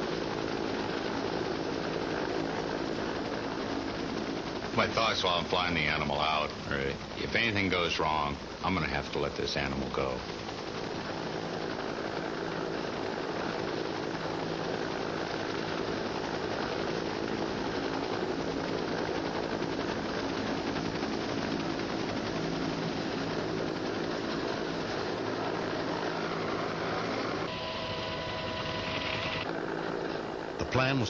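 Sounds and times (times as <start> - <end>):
helicopter rotor and engine: 0.0 - 31.0.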